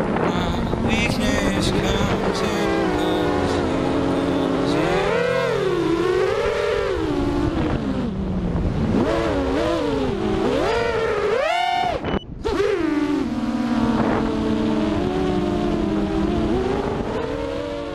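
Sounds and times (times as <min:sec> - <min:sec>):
quadcopter motors whining: 0:00.1 - 0:08.2, 0:09.1 - 0:17.9.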